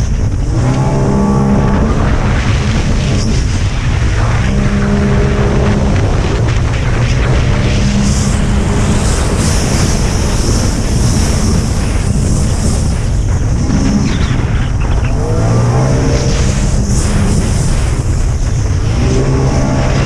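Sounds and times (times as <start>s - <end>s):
jet ski engine: 0.0s - 20.0s
water spray rushing: 0.0s - 20.0s
wind buffeting microphone: 0.0s - 20.0s.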